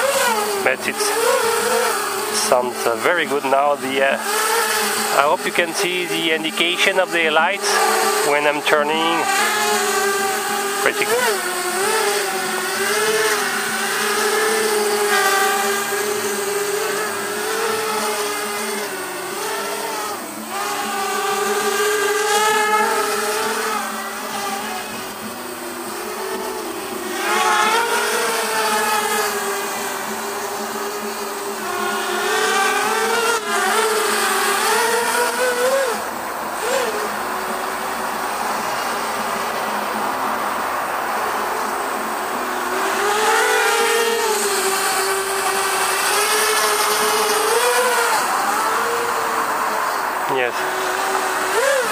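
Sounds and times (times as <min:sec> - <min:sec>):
quadcopter motors whining: 0:00.0 - 0:51.9.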